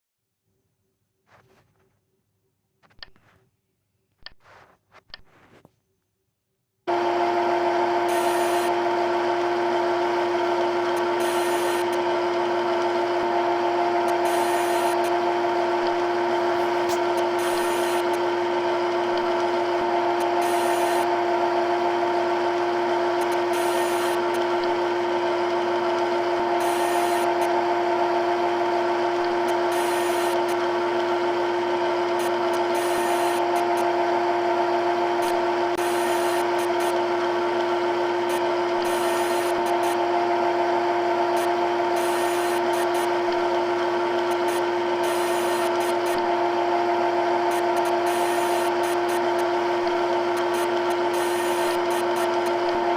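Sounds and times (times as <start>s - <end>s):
cnc machine whine: 6.9s - 52.9s.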